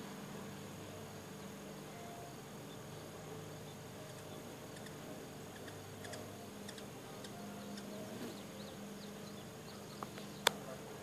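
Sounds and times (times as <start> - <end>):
hummingbird wings humming: 0.0 - 11.0
faint high chirps: 1.4 - 10.6.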